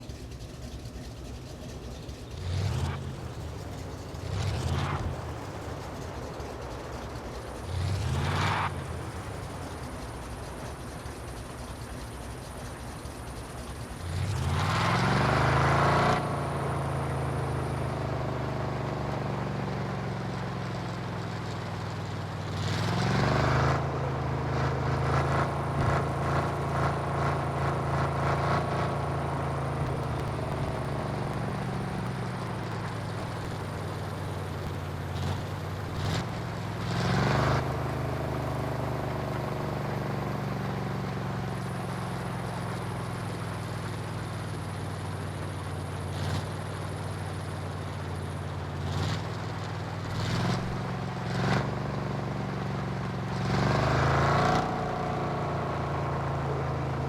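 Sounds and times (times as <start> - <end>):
pickup truck engine revving: 1.6 - 10.4, 13.9 - 44.8, 45.4 - 57.0.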